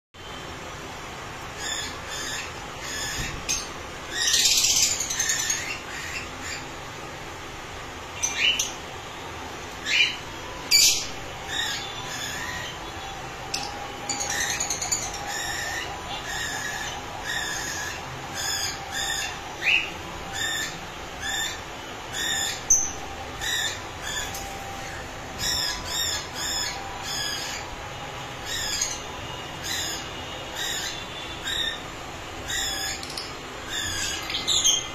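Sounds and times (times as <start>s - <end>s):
lovebirds chirping shrilly: 1.5s - 6.9s, 8.0s - 34.9s.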